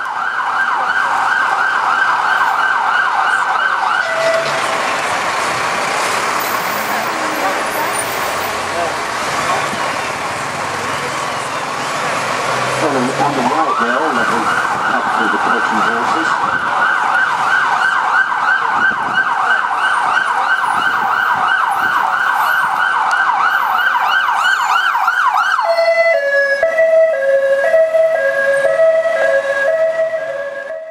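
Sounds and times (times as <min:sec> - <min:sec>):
police siren: 0:00.0 - 0:30.9.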